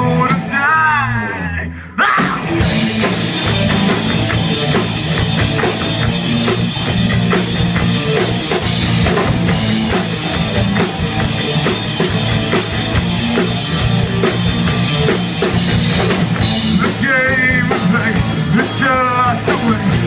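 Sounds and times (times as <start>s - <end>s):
drum kit beat: 2.1s - 20.0s
electric guitars: 2.2s - 20.0s.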